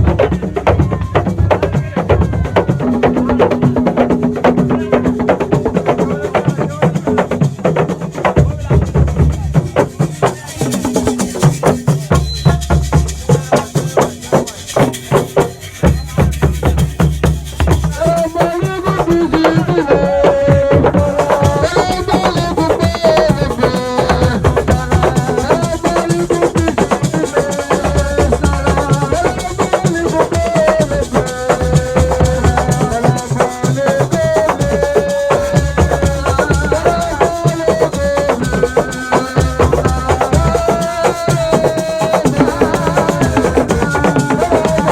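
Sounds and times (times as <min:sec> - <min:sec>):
drums: 0:00.0 - 0:44.9
shaker rattles: 0:00.0 - 0:44.9.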